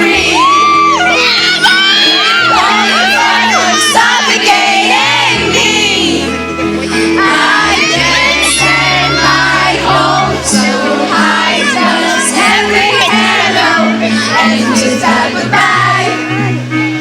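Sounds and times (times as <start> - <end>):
crowd singing along: 0.0 - 17.0
keyboard and bass chords: 0.0 - 17.0.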